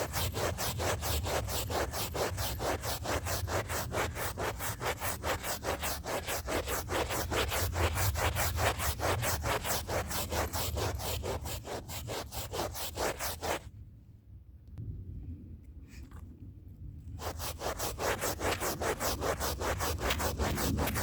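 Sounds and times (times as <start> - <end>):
scrub brush scrubbing rug: 0.0 - 13.6, 17.2 - 21.0.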